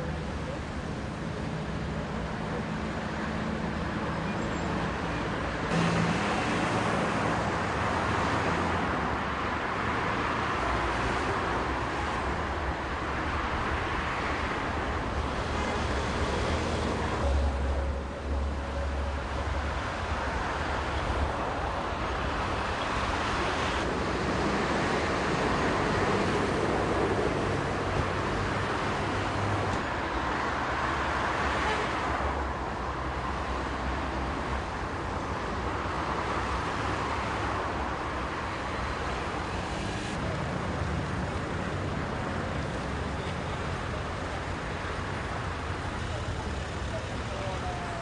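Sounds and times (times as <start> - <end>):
motorway traffic noise: 0.0 - 48.0.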